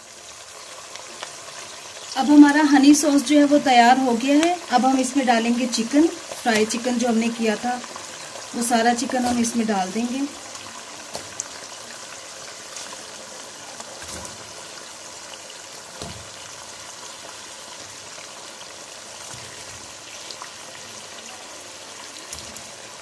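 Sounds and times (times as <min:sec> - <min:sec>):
sauce bubbling and sizzling in wok: 0:00.0 - 0:23.0.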